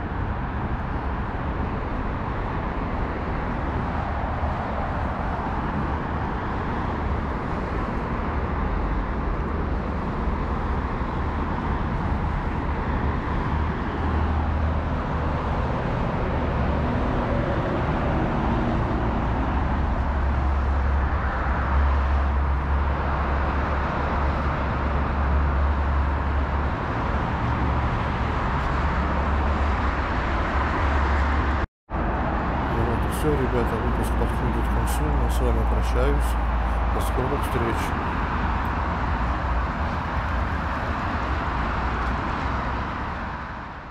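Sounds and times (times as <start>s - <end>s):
road traffic rumble: 0.0s - 43.9s.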